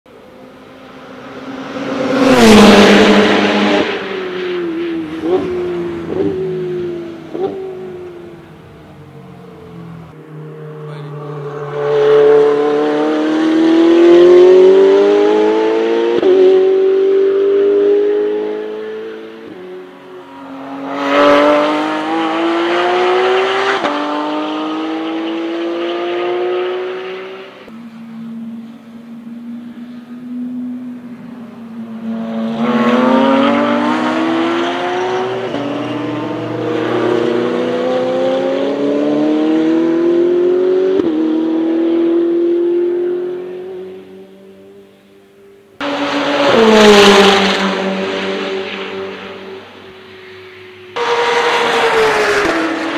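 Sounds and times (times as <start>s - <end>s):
race car passing at speed: 0.1s - 45.0s, 45.8s - 52.9s.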